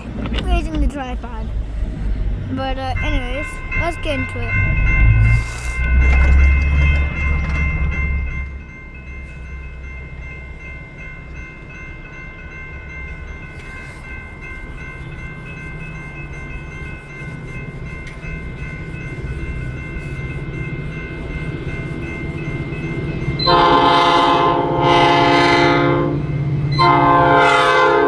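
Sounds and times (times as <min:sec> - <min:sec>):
crossing warning bells ringing: 0:00.0 - 0:28.0
train rumbling: 0:00.0 - 0:28.0.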